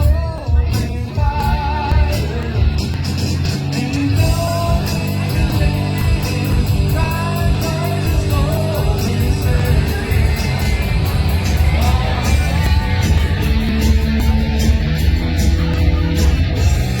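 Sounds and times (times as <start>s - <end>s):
bass guitar: 0.0s - 17.0s
electric guitar: 0.0s - 17.0s
person singing: 0.0s - 17.0s
steady drum beat: 0.0s - 17.0s.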